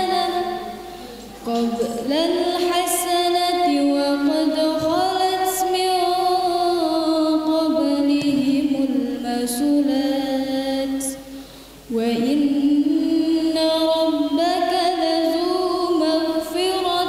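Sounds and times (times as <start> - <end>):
girl reciting melodically: 0.0 - 17.0.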